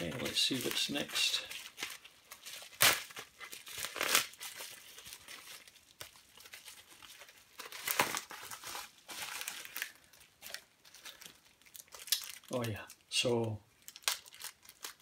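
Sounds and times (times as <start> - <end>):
plastic mailer tearing and crinkling: 0.0 - 15.0.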